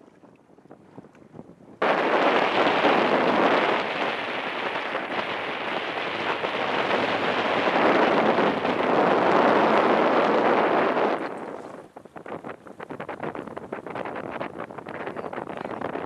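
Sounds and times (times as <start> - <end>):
water rushing around boat: 0.0 - 16.0
wind rushing: 1.8 - 16.0.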